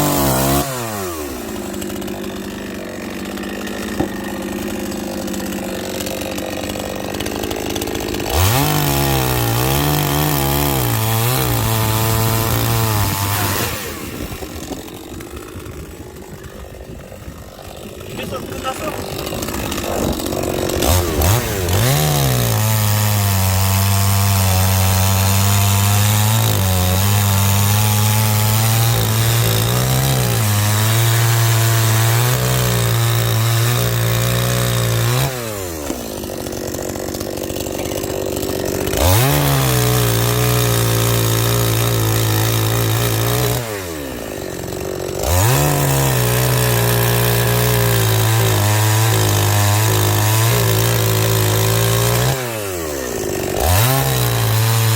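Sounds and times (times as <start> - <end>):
chainsaw cutting logs: 0.0 - 54.9.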